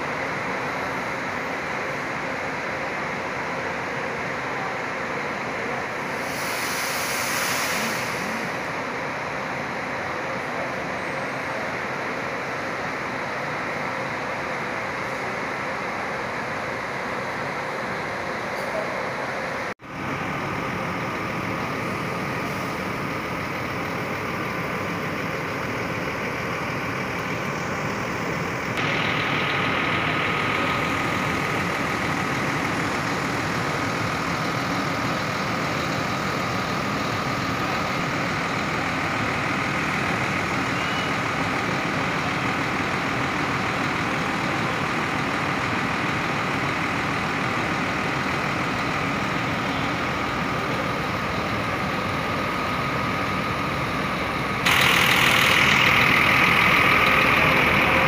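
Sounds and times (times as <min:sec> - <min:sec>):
bus diesel engines running: 0:00.0 - 0:58.0.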